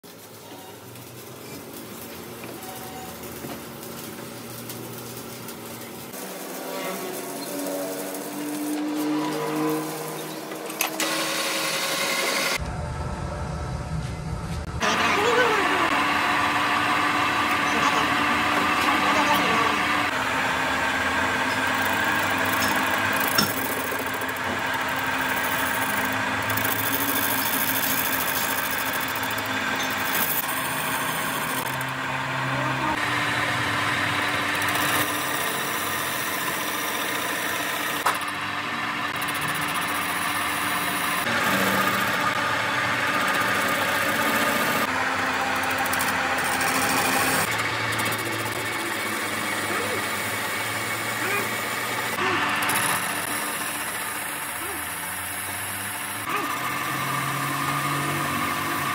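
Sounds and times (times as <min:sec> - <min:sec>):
metal lathe humming: 0:00.4 - 0:12.7, 0:14.8 - 0:58.9.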